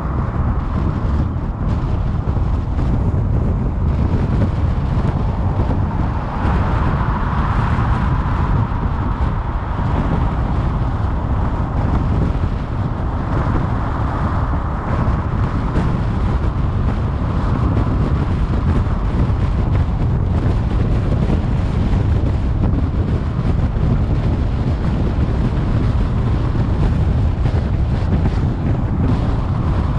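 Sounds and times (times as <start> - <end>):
tyre rumble on highway: 0.0 - 29.9
wind noise in car: 0.0 - 29.9.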